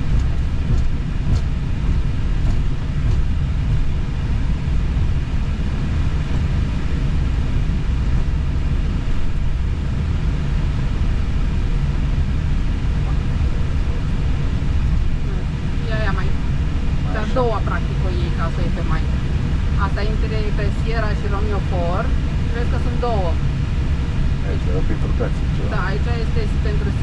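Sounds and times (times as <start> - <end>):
cockpit low rumble: 0.0 - 27.0
faint hum of steady tones: 0.0 - 27.0.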